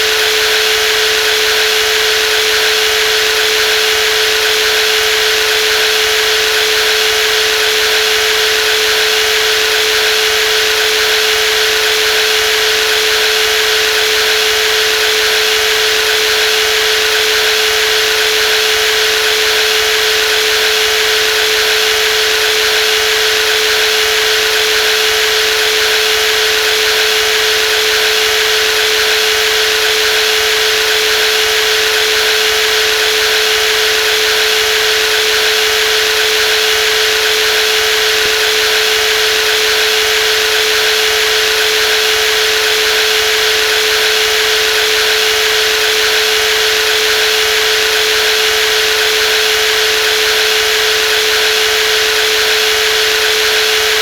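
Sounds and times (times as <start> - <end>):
jigsaw motor whining: 0.0 - 54.0.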